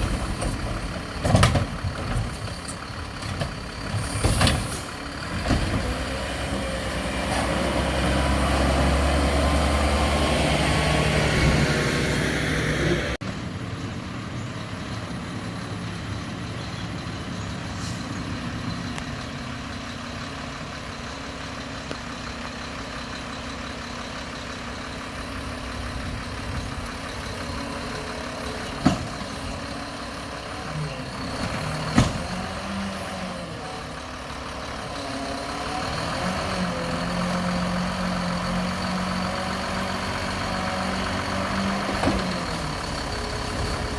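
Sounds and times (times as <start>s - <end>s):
garbage truck engine: 0.0s - 43.9s.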